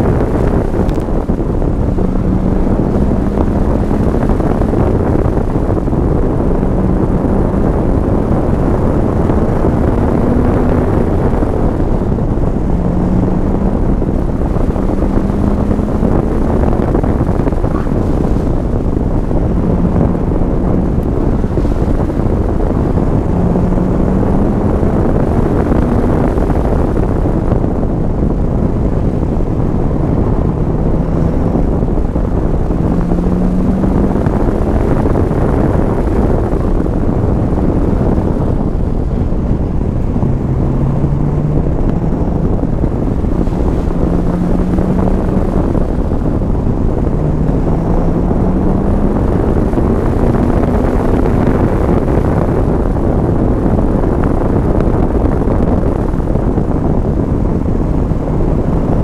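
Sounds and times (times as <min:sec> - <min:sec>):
car engine from inside cabin: 0:00.0 - 0:59.0
road and tyre noise: 0:00.0 - 0:59.0.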